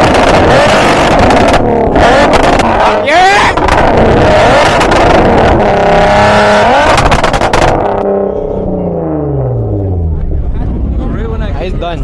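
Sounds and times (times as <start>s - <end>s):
car engine revving and pulling away: 0.0s - 12.0s.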